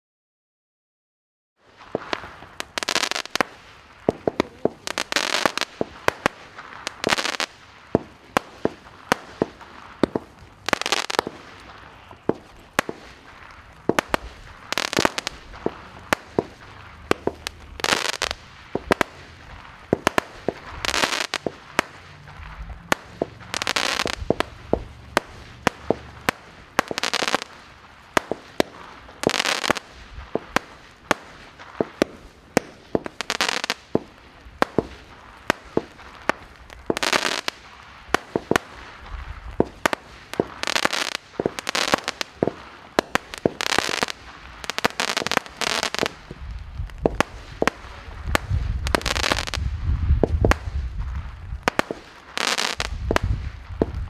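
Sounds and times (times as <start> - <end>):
firework crackle: 1.6 - 54.0
fireworks popping and banging: 1.7 - 54.0.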